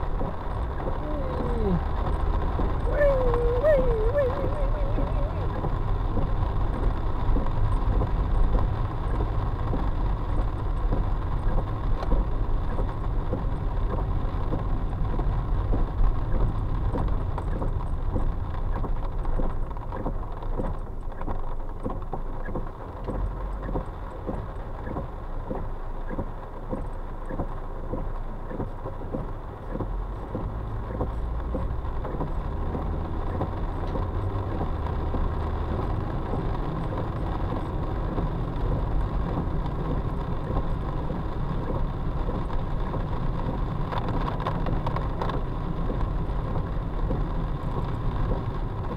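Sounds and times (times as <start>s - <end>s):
car engine and tyres on wet road: 0.0s - 48.9s
raindrops tapping on car: 0.0s - 48.9s.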